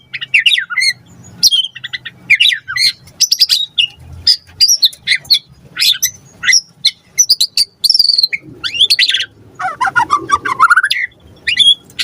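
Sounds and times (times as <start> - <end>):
bird singing chirps and whistles: 0.0 - 12.0.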